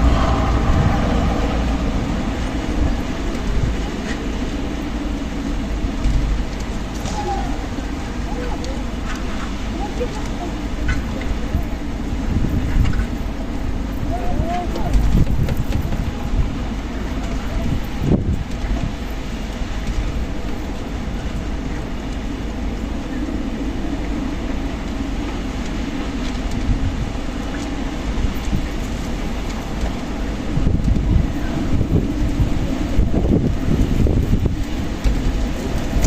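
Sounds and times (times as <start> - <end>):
strong wind rushing: 0.0 - 36.0.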